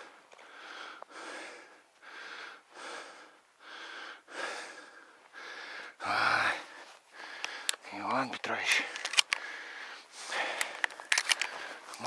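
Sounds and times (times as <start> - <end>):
person breathing heavily: 0.0 - 7.8, 8.8 - 12.0.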